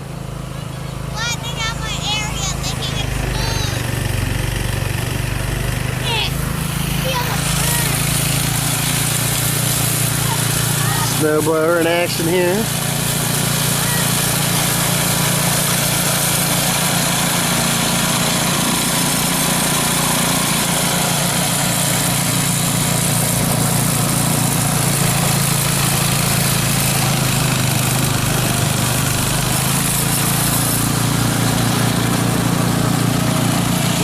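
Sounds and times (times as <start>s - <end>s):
snowblower engine running: 0.0s - 34.0s.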